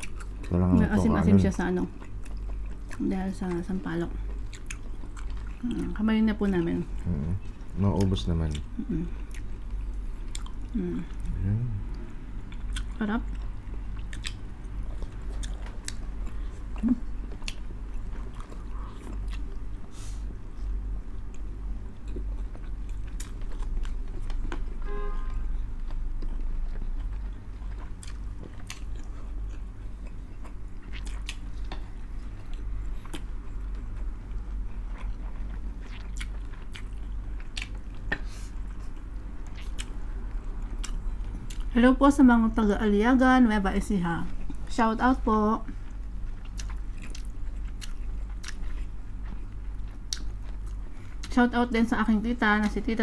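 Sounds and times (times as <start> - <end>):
people chewing and biting: 0.0 - 24.8, 25.6 - 41.7, 45.7 - 51.4.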